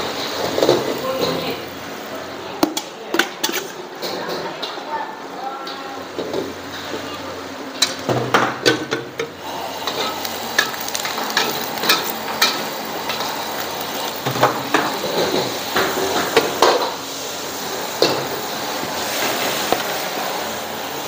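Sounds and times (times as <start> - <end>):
food sizzling: 0.0 - 2.7, 6.2 - 21.0.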